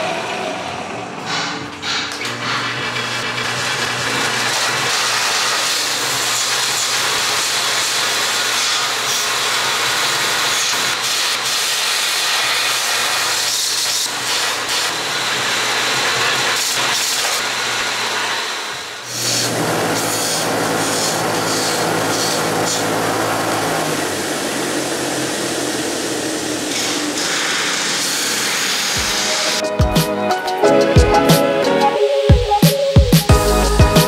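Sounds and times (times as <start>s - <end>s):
belt sander grinding metal: 0.0s - 29.6s.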